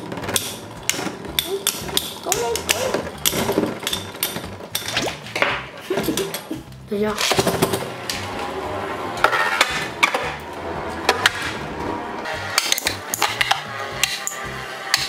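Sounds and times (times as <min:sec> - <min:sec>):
background music with bass line: 0:00.0 - 0:15.0.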